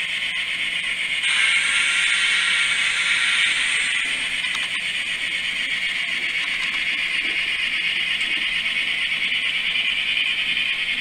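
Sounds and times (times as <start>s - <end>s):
model train whirring on track: 0.0s - 11.0s.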